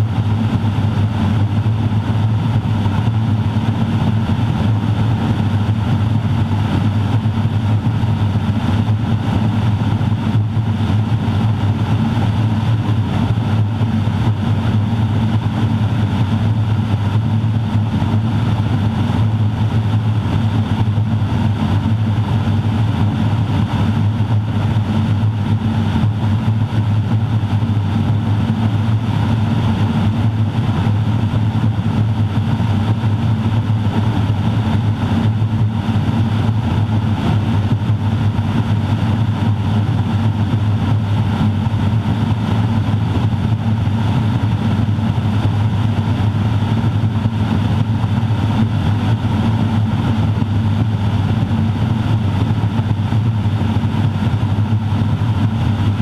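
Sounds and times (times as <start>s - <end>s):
turboprop engine drone in cockpit: 0.0s - 56.0s.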